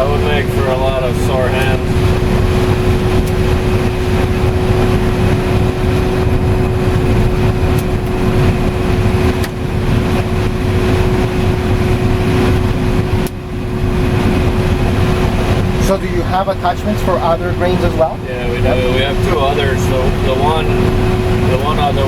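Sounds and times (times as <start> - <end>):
combine harvester rumbling: 0.0 - 22.0
constant machine hum: 0.0 - 22.0.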